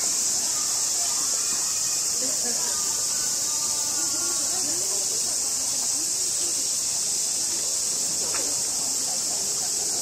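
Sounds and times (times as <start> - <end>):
cicadas droning: 0.0 - 10.0
faint chatter of voices: 0.0 - 10.0.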